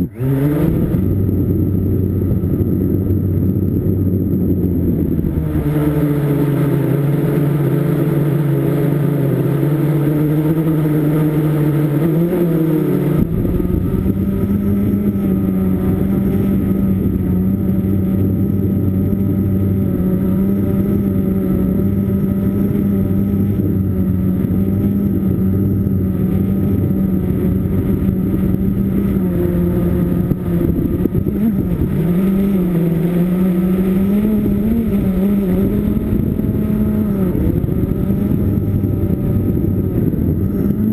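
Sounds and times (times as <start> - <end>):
quadcopter motors humming: 0.0 - 40.9.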